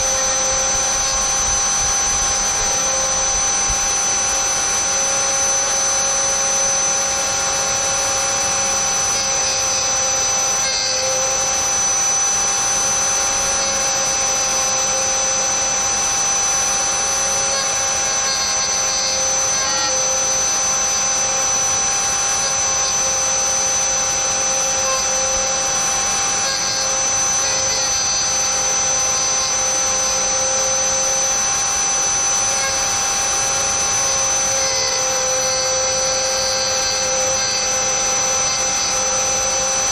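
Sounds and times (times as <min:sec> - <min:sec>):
bit cutting plastic: 0:00.0 - 0:39.9
rotary tool high whine: 0:00.0 - 0:39.9.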